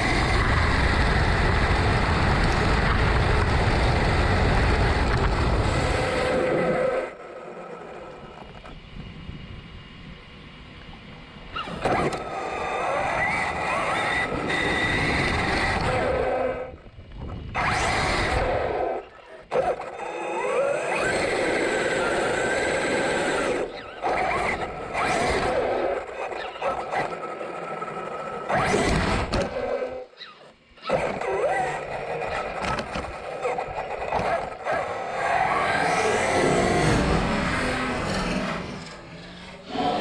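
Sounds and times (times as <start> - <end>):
tire noise: 0.0 - 30.1, 30.9 - 40.0
electric motor whining: 0.0 - 40.0.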